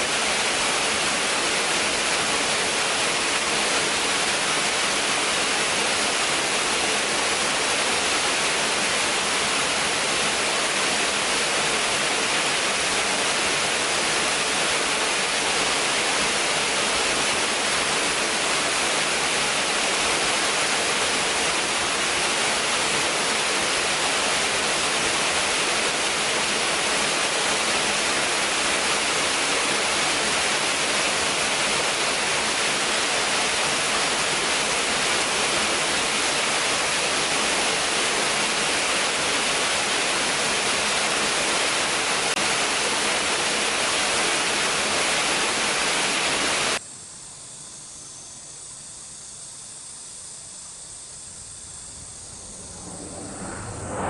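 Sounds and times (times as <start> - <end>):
waterfall roaring: 0.0 - 46.8.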